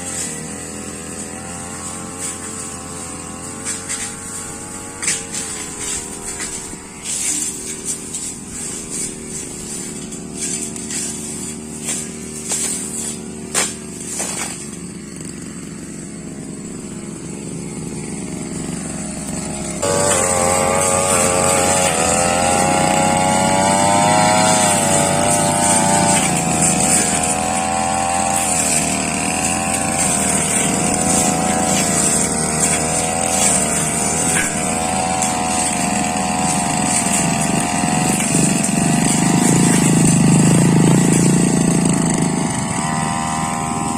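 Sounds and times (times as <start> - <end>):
brush cutter engine: 0.0 - 43.9.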